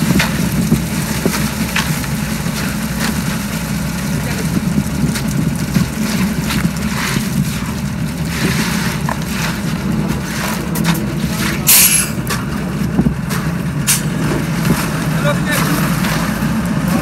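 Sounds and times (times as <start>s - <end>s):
concrete sliding and scraping: 0.0s - 17.0s
diesel truck engine running: 0.0s - 17.0s.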